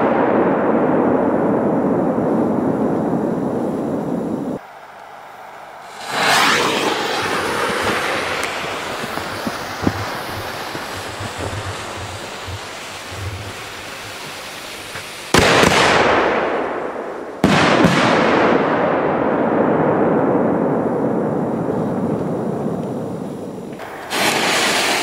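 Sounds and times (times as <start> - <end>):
loud firework blasts with echoing rumble: 0.0 - 4.6, 5.8 - 25.0
firework launch hiss and rumble: 0.0 - 25.0
small firework crackles: 0.0 - 25.0.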